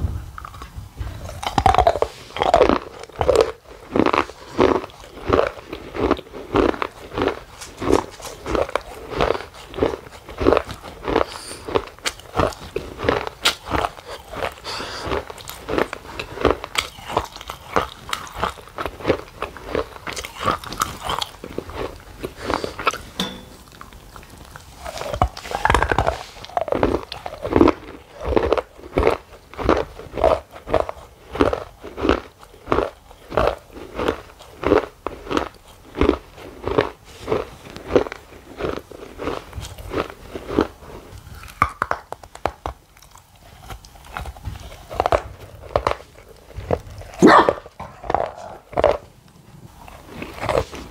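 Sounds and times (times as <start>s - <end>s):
crunchy chewing: 0.3s - 50.9s.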